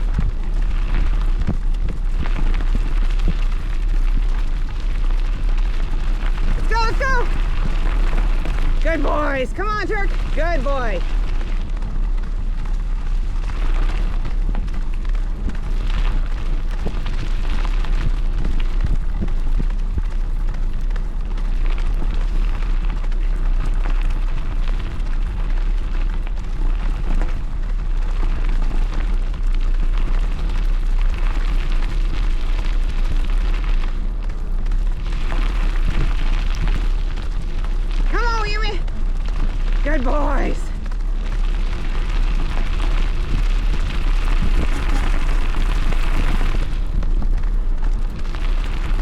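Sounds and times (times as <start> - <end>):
tyre and trail rumble: 0.0 - 49.0
wind buffeting microphone: 0.0 - 49.0.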